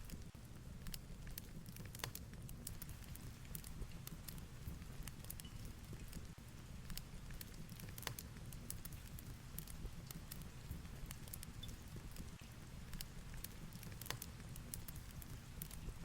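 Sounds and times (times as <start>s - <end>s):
fireplace crackling: 0.1s - 16.0s.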